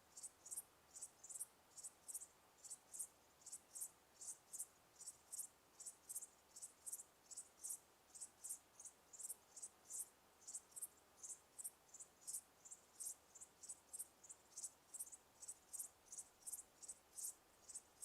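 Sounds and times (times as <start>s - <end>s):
crickets chirping: 0.1s - 18.0s.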